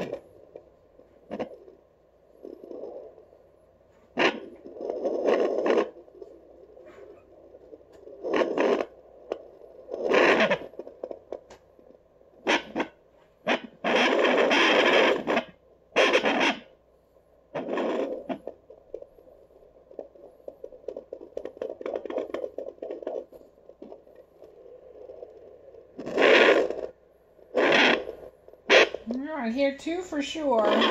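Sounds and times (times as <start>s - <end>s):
doppler speaker crackling and scraping: 0.0s - 30.9s.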